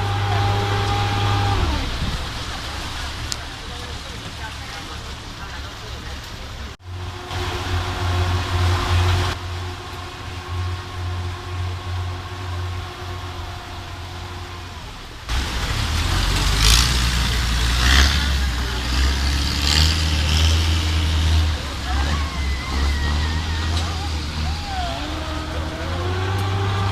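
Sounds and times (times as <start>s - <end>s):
steady tones: 0.0s - 4.2s, 6.8s - 26.9s
engine humming: 0.0s - 26.9s.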